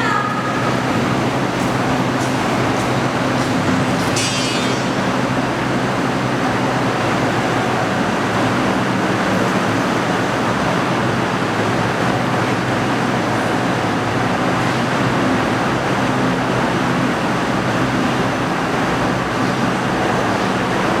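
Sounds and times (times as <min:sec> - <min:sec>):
loud machinery noise: 0:00.0 - 0:21.0.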